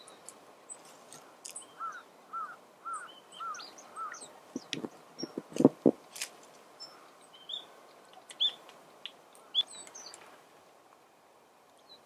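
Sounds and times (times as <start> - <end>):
small birds chirping: 0.0 - 10.5, 11.2 - 12.0.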